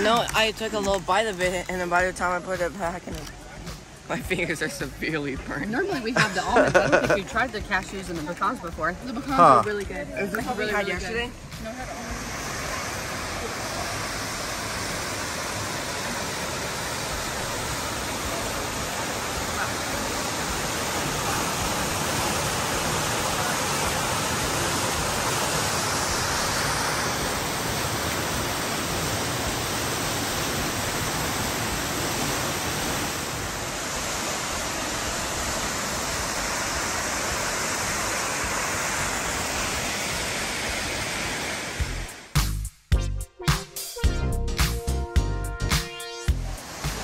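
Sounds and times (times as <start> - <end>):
waterfall rushing: 0.0 - 42.3, 46.4 - 47.0.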